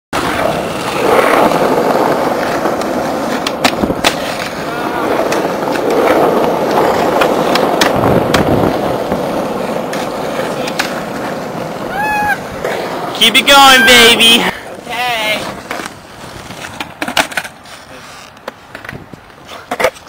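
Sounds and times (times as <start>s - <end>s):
skateboard wheels rumbling on asphalt: 0.1s - 20.0s.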